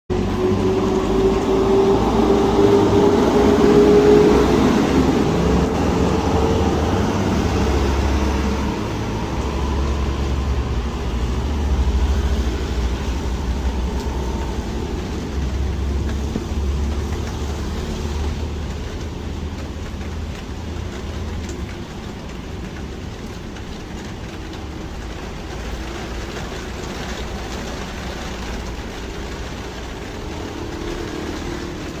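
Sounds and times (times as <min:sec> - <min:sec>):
heavy rain on road: 0:00.1 - 0:32.0
passing traffic engine rumble: 0:00.1 - 0:32.0.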